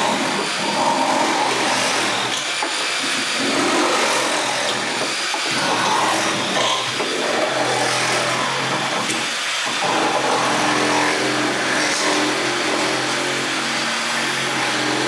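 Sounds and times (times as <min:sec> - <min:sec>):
reciprocating saw cutting nails: 0:00.0 - 0:15.0.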